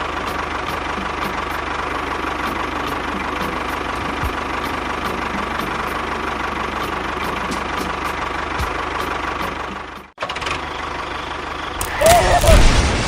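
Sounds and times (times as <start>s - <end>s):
small tractor engine idling: 0.0s - 12.0s.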